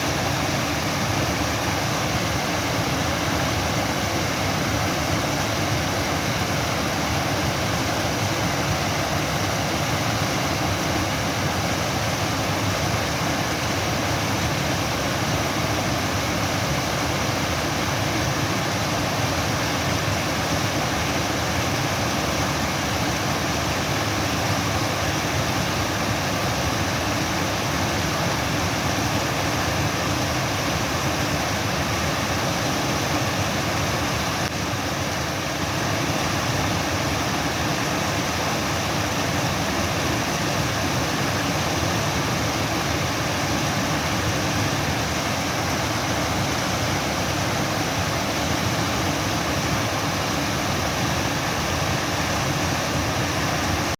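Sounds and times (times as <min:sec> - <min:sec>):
rushing water: 0:00.0 - 0:53.9.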